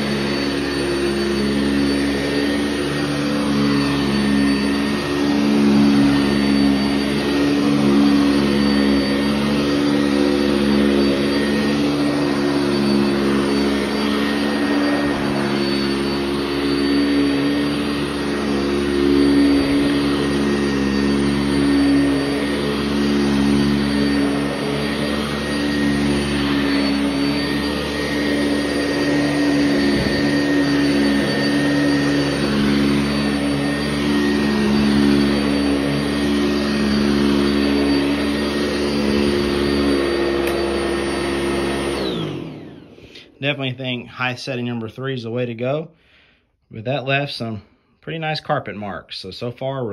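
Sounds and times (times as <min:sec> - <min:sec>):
vacuum winding down: 0:00.0 - 0:45.6
vacuum cleaner motor whine: 0:00.0 - 0:46.2.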